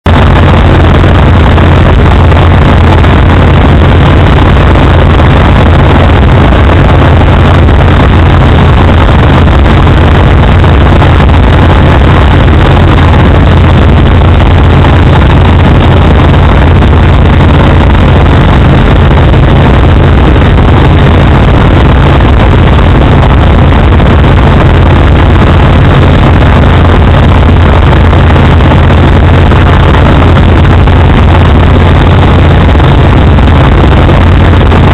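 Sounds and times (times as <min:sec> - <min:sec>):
aircraft engine and propeller drone: 0:00.0 - 0:34.9.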